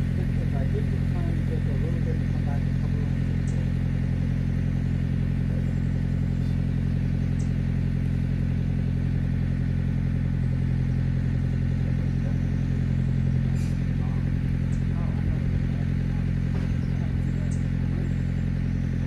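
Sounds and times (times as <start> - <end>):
motor humming steadily: 0.0 - 19.0.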